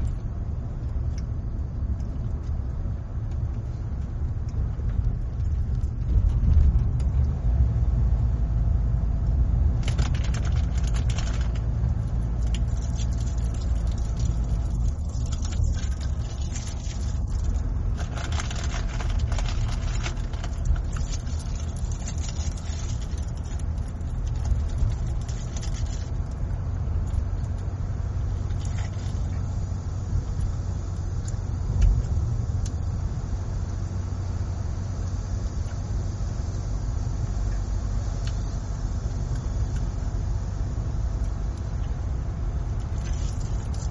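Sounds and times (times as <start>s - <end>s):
low road and engine rumble: 0.0s - 43.9s.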